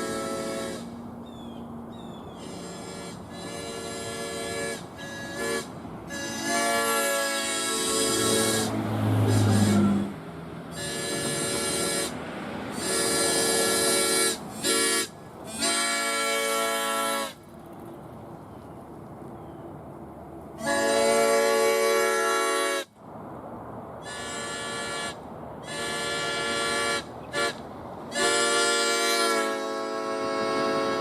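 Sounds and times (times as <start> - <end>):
train horn blasts: 0.0 - 1.1, 2.3 - 17.4, 20.6 - 23.0, 24.0 - 31.0.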